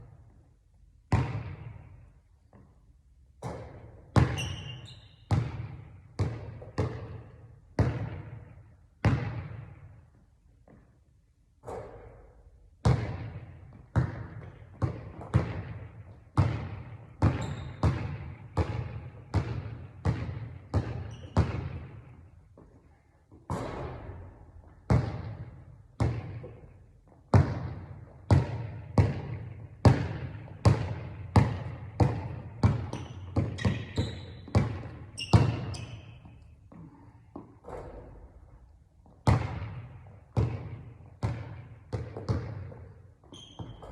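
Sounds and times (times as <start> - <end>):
basketball bouncing on hard court: 1.1 - 2.7, 3.4 - 11.0, 11.6 - 22.8, 23.4 - 43.9.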